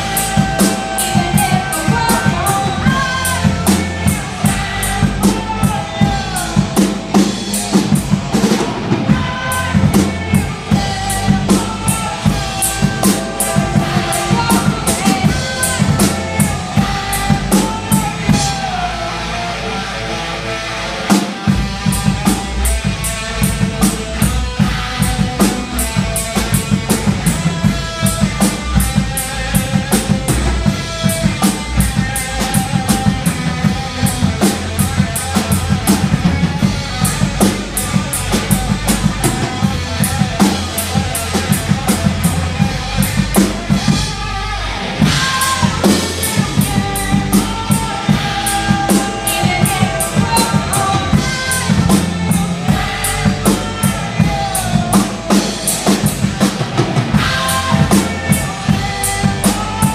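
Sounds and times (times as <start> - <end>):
live metal band playing: 0.0 - 59.9.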